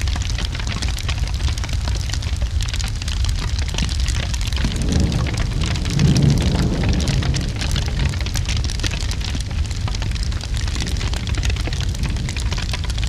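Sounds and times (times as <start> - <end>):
fire crackling: 0.0 - 13.0
steady rain: 0.0 - 13.0
low rumble: 1.5 - 13.0.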